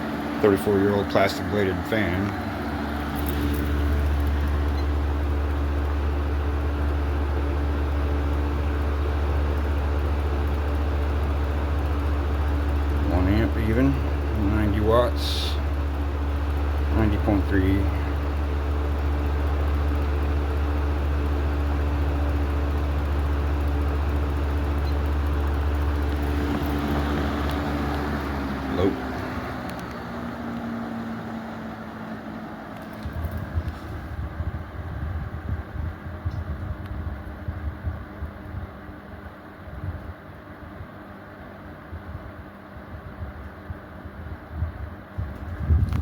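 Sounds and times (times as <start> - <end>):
box fan running: 0.0 - 46.0.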